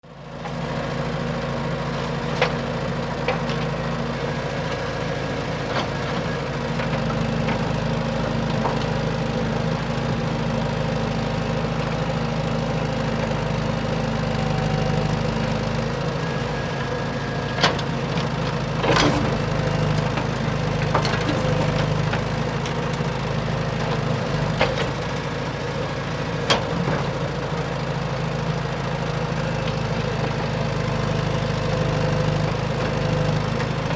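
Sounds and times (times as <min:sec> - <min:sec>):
engine-like drone: 0:00.4 - 0:33.9.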